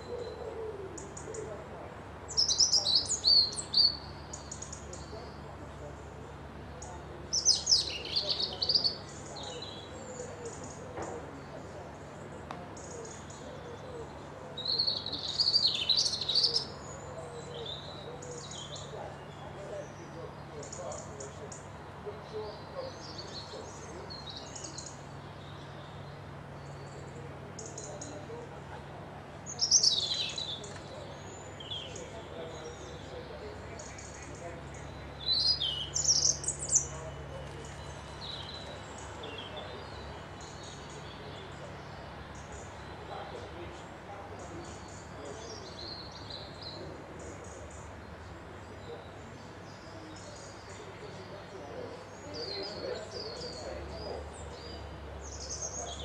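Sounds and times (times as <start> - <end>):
faint low hum: 0.0 - 56.0
songbirds chirping: 0.0 - 56.0.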